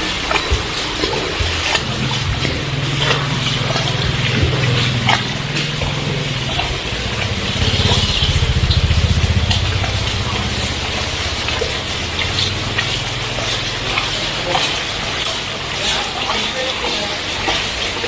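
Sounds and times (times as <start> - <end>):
low engine hum: 0.0 - 15.6
vehicle engine throbbing: 0.0 - 15.8
heavy rain on street: 0.0 - 18.0.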